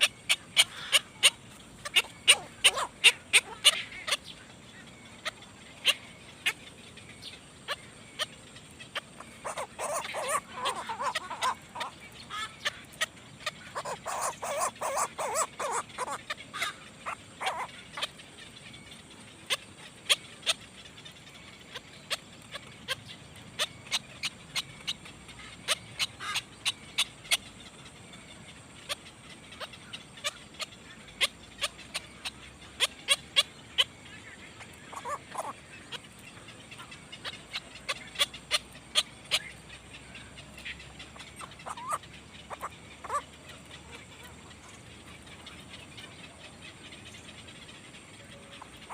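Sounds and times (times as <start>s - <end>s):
nestling birds chirping: 0.0s - 48.9s.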